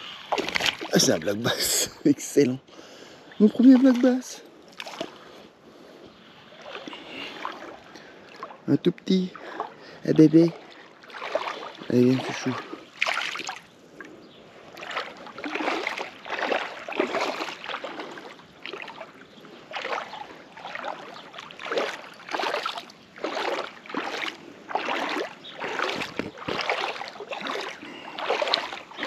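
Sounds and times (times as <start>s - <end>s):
water sloshing and splashing: 0.0s - 2.0s, 3.2s - 29.0s.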